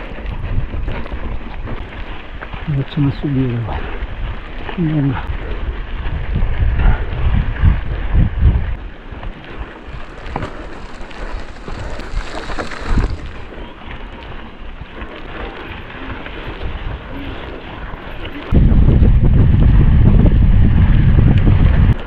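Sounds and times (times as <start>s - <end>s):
steady rushing noise: 0.0s - 22.0s
wind buffeting microphone: 0.0s - 22.0s.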